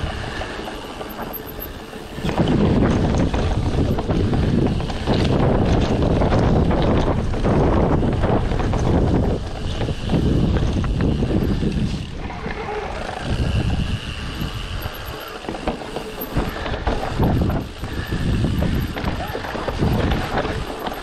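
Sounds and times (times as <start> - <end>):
bike knocking and rattling: 0.0 - 21.0
wind buffeting microphone: 0.0 - 21.0.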